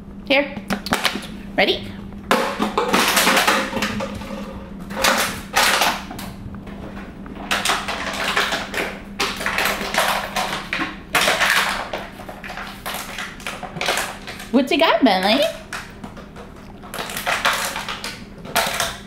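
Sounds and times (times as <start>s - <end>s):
plastic bottle crackling and clattering: 2.3s - 6.3s, 6.9s - 14.6s, 15.2s - 19.0s.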